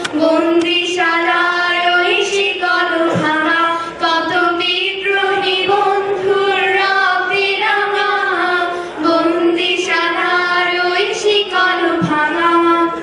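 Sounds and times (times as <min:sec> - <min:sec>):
woman singing with held notes: 0:00.0 - 0:13.0.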